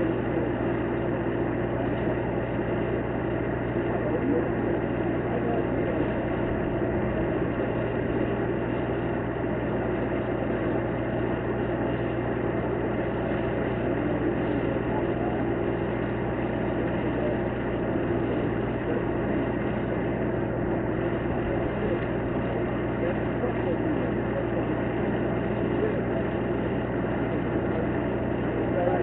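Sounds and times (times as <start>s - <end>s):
constant hum: 0.0s - 29.0s
low engine rumble: 0.0s - 29.0s.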